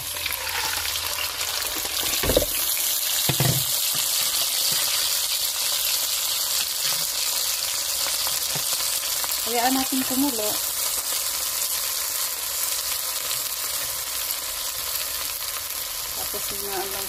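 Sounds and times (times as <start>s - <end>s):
sauce sizzling in hot oil: 0.0s - 17.0s.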